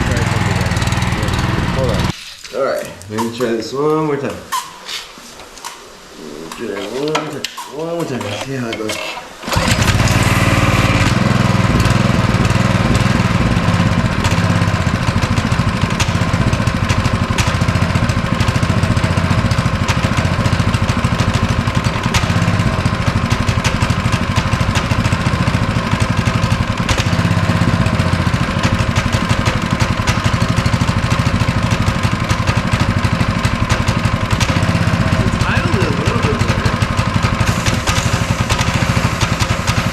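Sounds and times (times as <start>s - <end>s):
small engine starting and running: 0.0s - 2.1s, 8.9s - 39.9s.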